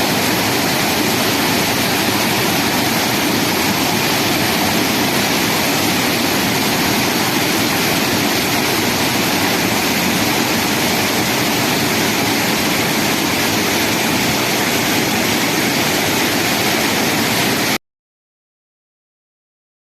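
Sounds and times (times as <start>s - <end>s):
falling water roaring: 0.0s - 17.8s.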